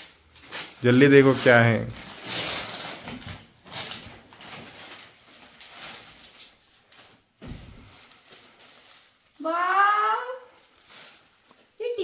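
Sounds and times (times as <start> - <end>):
gift package rustling: 0.0 - 12.0.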